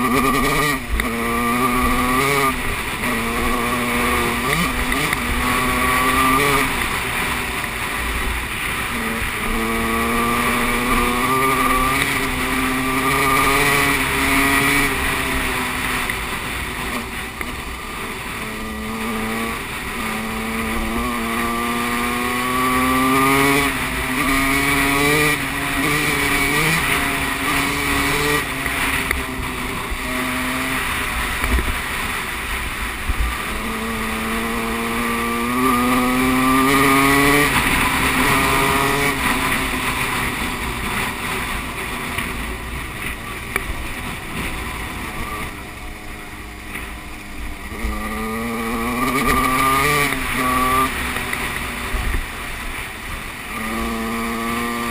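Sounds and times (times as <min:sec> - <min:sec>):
motocross bike engine revving: 0:00.0 - 0:46.1, 0:46.7 - 0:54.9.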